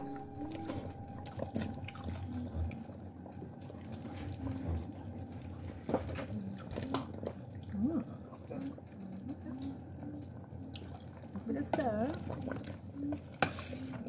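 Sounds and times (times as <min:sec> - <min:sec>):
stew bubbling softly: 0:00.0 - 0:14.0.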